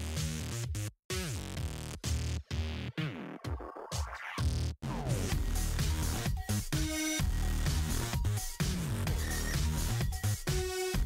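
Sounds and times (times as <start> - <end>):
electronic dance music: 1.1 - 11.0.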